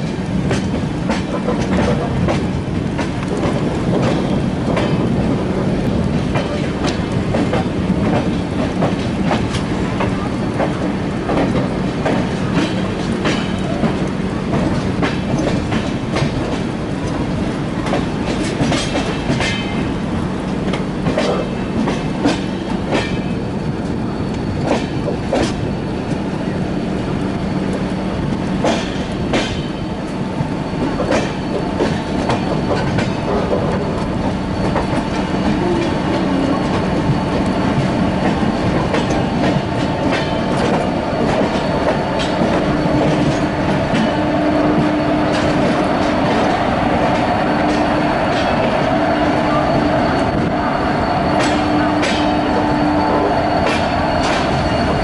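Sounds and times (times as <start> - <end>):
train wheels clicking over rail joints: 0.0 - 55.0
wheels squealing on rail: 0.0 - 55.0.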